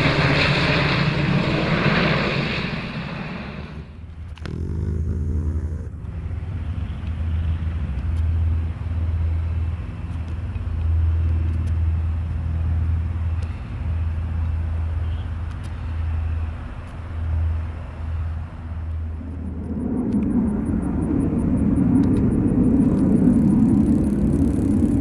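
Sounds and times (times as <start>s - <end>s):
aircraft engines droning: 0.0s - 25.0s
constant rushing noise: 0.0s - 25.0s.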